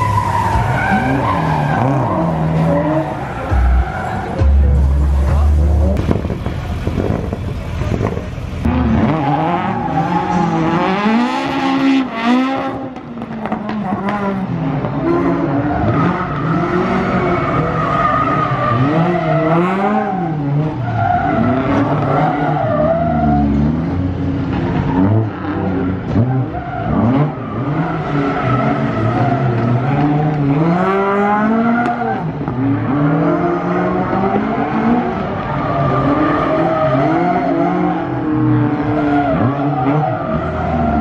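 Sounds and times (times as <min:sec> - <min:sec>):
race car engine revving: 0:00.0 - 0:41.0.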